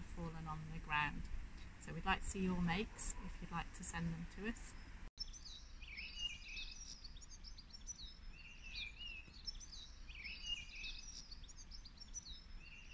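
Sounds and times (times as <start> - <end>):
faint background noise: 0.0 - 12.9
songbirds singing and chirping: 0.0 - 12.9.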